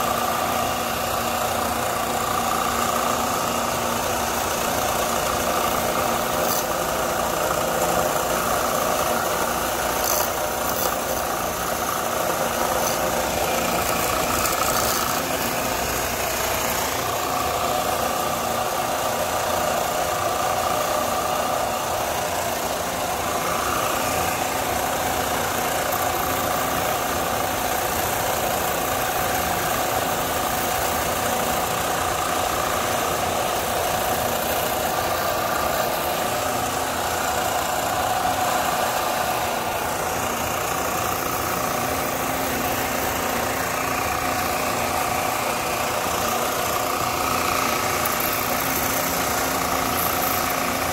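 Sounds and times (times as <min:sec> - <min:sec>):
motor running steadily: 0:00.0 - 0:50.9.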